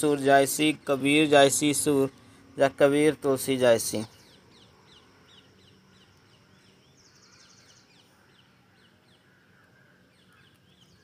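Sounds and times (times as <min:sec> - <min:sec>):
birds chirping: 0:00.0 - 0:11.0
buzzy bird trill: 0:00.0 - 0:11.0.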